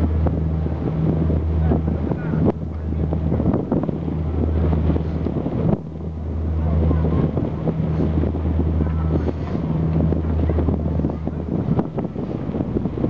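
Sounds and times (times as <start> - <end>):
boat engine drone: 0.0 - 13.0
wind buffeting microphone: 0.0 - 13.0.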